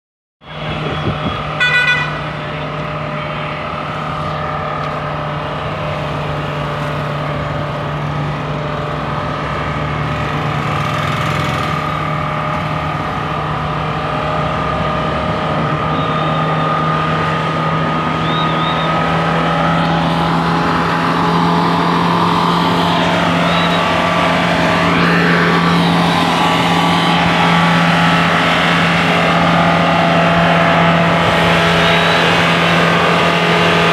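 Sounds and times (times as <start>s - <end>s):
engine humming: 0.4s - 33.9s
high engine whine: 0.4s - 33.9s.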